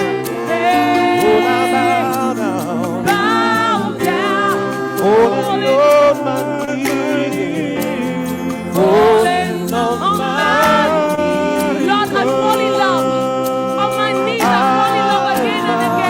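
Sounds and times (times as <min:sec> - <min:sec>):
sustained accompaniment: 0:00.0 - 0:16.0
voices singing held notes: 0:00.0 - 0:16.0.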